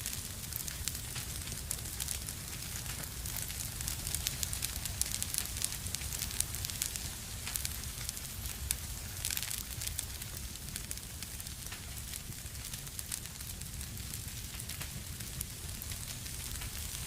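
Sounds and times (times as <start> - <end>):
fire crackling and popping: 0.0 - 17.0
low steady fire rumble: 0.0 - 17.0.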